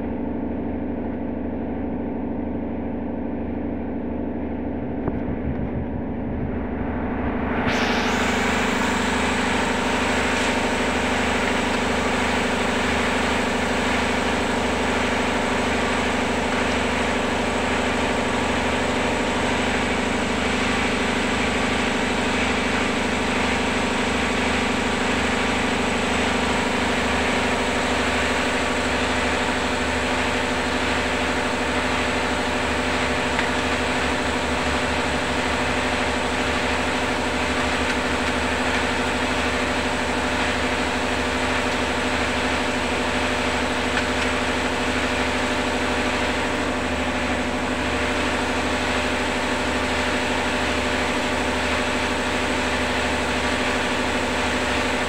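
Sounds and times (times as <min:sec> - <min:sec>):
machine hum: 0:00.0 - 0:55.0
thin high whine: 0:02.8 - 0:55.0.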